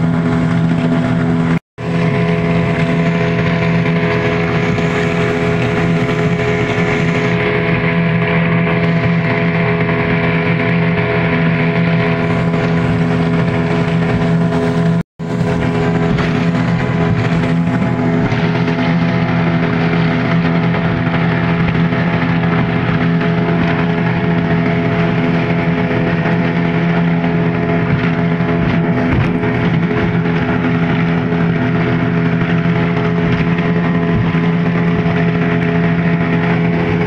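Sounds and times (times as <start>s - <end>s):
outboard motor droning: 0.0s - 37.0s
water rushing along hull: 0.0s - 37.0s.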